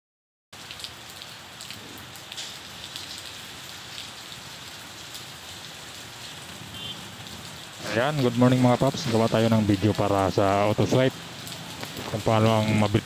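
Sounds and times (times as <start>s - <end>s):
steady rain falling: 0.6s - 13.0s.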